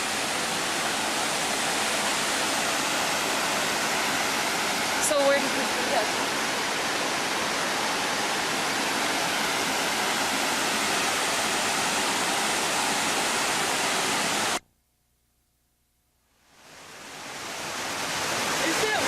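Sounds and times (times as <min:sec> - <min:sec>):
waterfall roaring: 0:00.0 - 0:14.6, 0:16.5 - 0:19.0.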